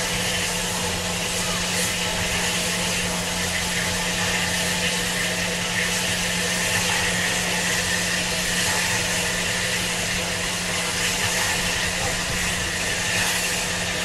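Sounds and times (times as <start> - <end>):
loud hiss of escaping steam: 0.0 - 14.0.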